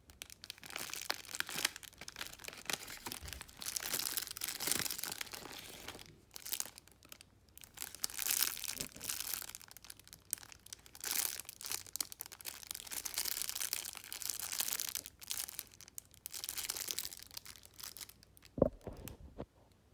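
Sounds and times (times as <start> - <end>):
packaging crinkling and rustling: 0.2 - 19.5.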